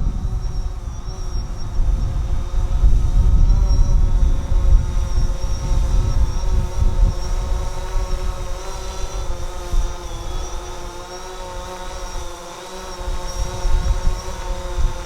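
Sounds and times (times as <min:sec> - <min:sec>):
drone propellers whining: 0:00.0 - 0:15.0
wind buffeting microphone: 0:00.0 - 0:15.0.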